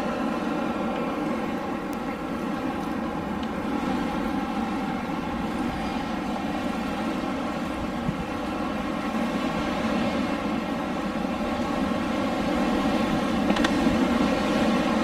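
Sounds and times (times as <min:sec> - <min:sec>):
rushing of blowing air: 0:00.0 - 0:15.0.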